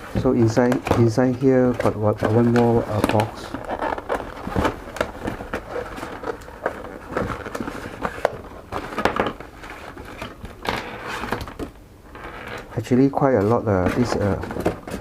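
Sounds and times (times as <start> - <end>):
cardboard and plastic rustling: 0.0 - 15.0.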